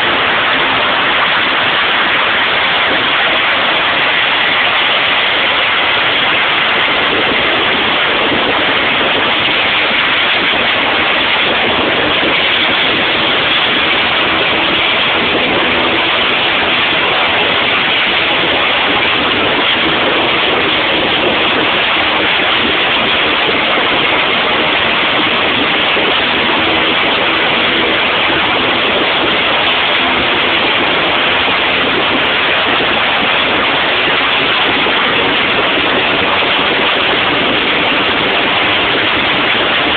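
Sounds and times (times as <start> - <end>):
turbine engine running: 0.0 - 39.9.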